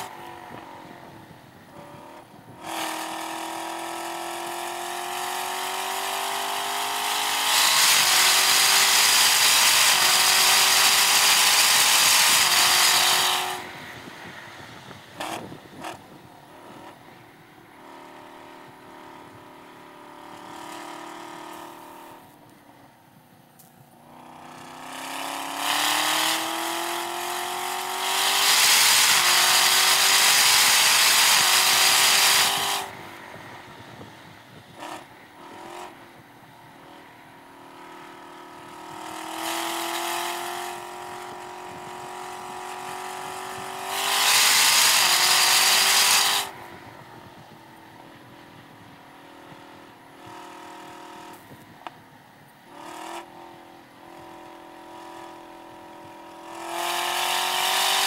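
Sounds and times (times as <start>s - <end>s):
car engine accelerating hard: 0.0s - 22.4s, 24.0s - 52.0s, 52.7s - 58.0s.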